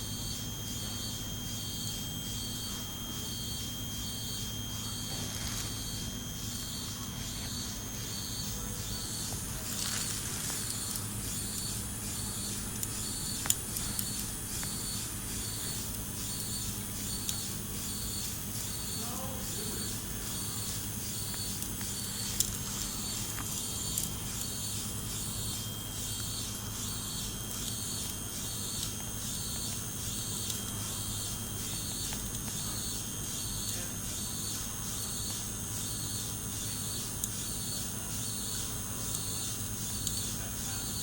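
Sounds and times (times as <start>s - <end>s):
robotic arm humming: 0.0s - 41.0s.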